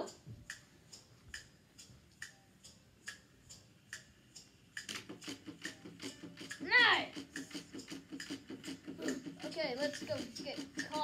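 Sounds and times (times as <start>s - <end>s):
faint ticking: 0.0s - 11.0s.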